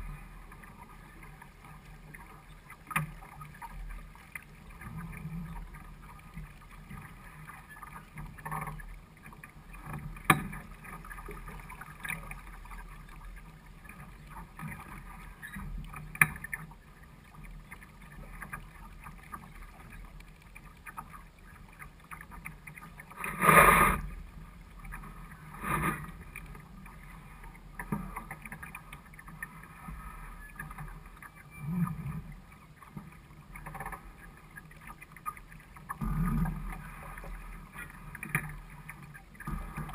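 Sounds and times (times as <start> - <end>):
water washing against hull: 0.0 - 39.9.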